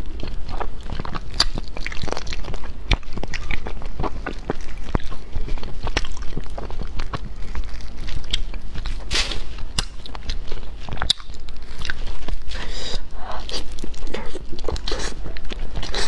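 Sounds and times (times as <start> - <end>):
person chewing and smacking: 0.0 - 16.0.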